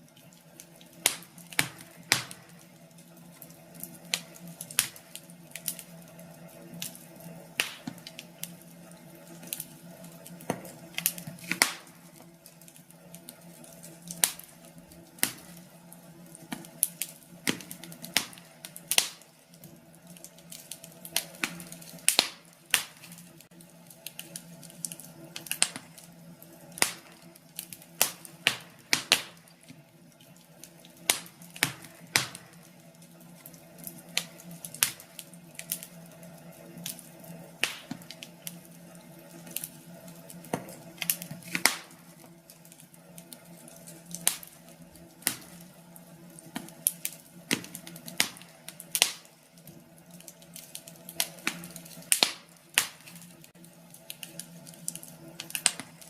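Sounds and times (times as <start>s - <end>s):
steady low hum: 0.0s - 56.0s
wood fire crackling: 0.0s - 56.0s.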